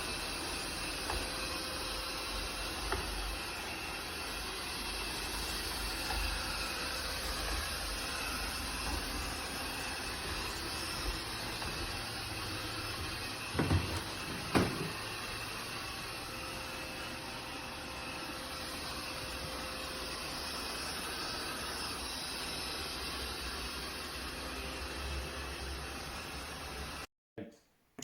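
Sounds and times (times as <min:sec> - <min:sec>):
robot vacuum whirring: 0:00.0 - 0:24.4.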